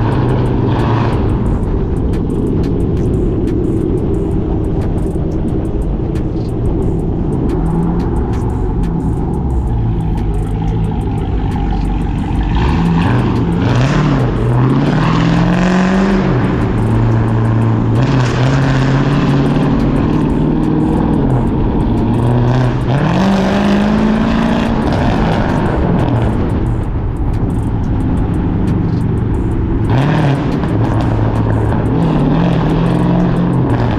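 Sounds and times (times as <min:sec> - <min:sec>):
car engine exhaust accelerating: 0:00.0 - 0:33.9.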